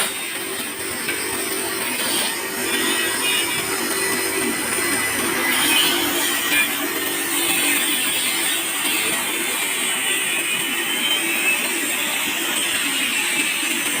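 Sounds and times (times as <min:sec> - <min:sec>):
sharpening machine running: 0:00.0 - 0:14.0.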